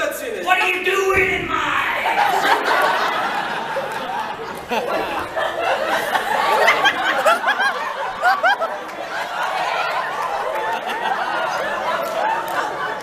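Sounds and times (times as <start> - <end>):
audience laughing: 1.8 - 13.0.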